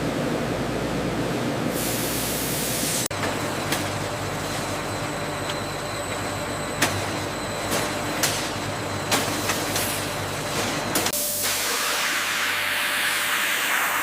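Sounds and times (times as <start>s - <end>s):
factory machinery humming: 0.0s - 14.0s.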